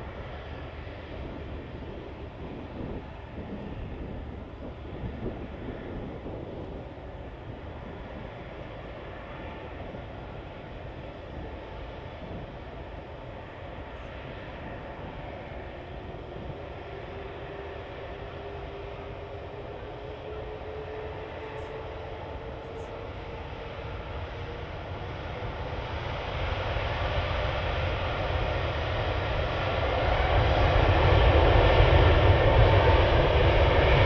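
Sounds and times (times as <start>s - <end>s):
faint steady whine: 0.0s - 30.3s
jet engines rumbling: 0.0s - 34.0s.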